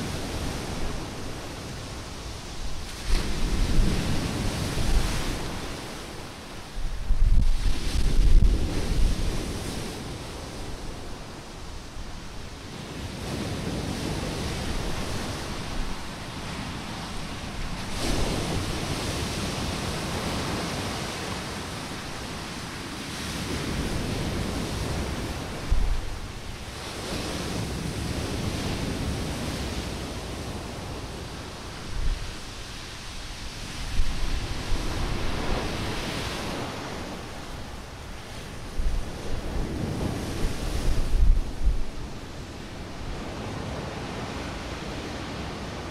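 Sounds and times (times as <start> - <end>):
sea waves breaking on shore: 0.0 - 45.9
wind buffeting microphone: 0.0 - 45.9.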